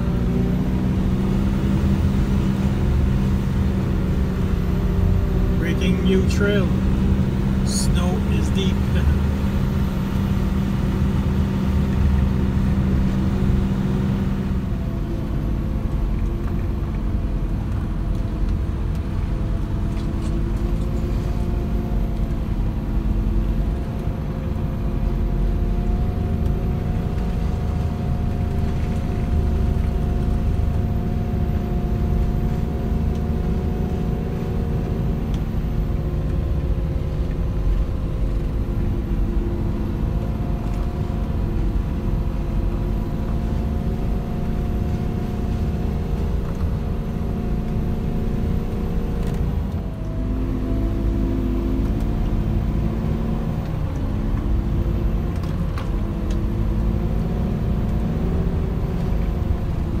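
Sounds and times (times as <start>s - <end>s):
snow groomer engine rumbling: 0.0s - 60.0s.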